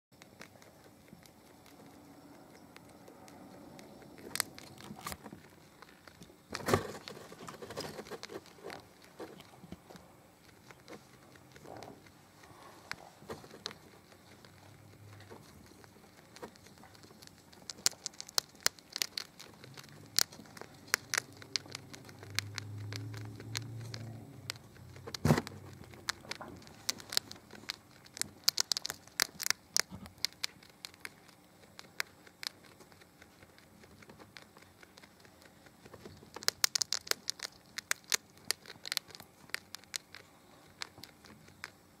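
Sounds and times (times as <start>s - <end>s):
rat gnawing and crunching: 0.1s - 42.0s.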